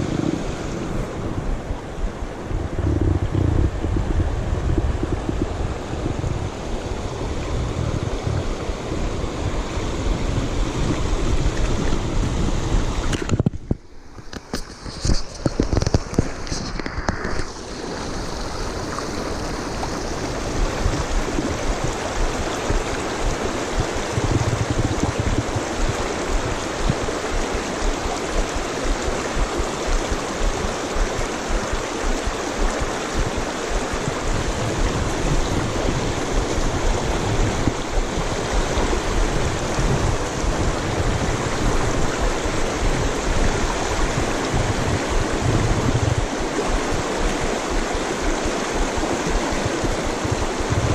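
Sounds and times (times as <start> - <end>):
river rushing over rocks: 0.0 - 13.4, 14.0 - 50.9.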